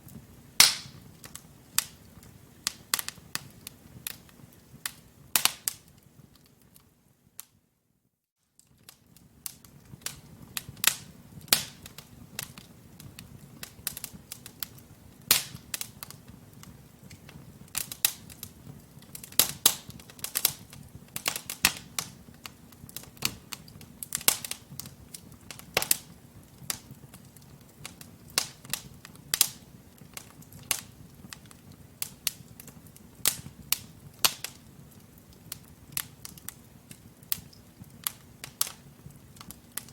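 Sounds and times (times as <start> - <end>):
logs crackling and popping: 0.0 - 7.6, 8.6 - 39.9.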